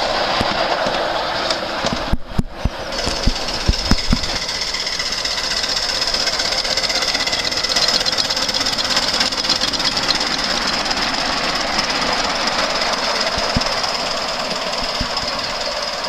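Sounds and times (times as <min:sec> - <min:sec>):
hiss of steam: 0:00.0 - 0:16.0
steam locomotive chuffing: 0:00.0 - 0:16.0.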